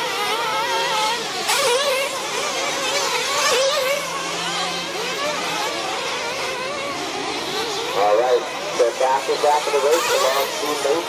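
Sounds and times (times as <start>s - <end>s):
rc car engines whining: 0.0s - 11.0s.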